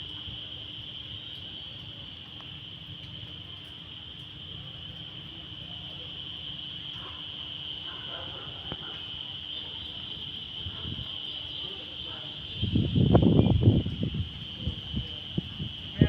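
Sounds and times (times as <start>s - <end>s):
shrill insect chorus: 0.0s - 16.0s.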